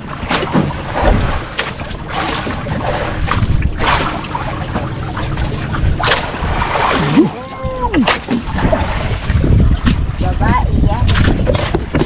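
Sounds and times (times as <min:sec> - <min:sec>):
water lapping against boat hull: 0:00.0 - 0:12.0
water splashing: 0:00.0 - 0:12.0
wind rumbling on microphone: 0:00.0 - 0:12.0.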